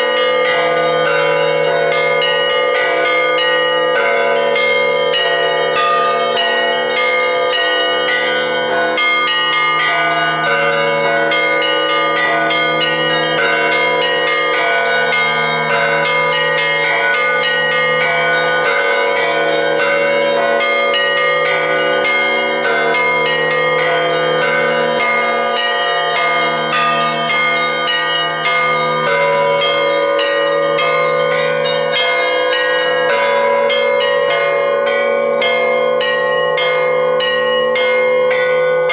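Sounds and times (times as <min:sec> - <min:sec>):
large bells humming: 0:00.0 - 0:38.9
small church bells ringing: 0:00.0 - 0:38.9.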